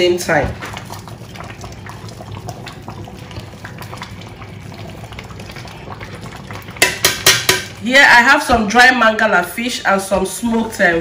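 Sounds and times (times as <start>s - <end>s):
thick soup bubbling and popping: 0.0s - 8.9s.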